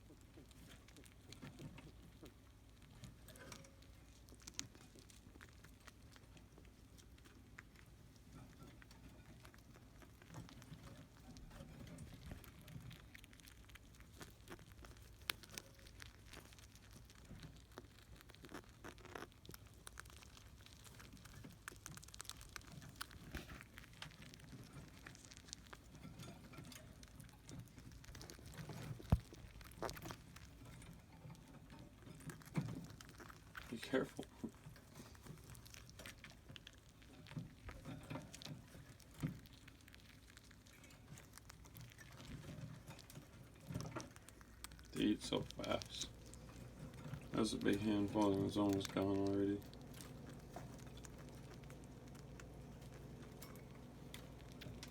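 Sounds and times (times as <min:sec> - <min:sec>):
small pets nibbling food: 0:00.0 - 0:54.9.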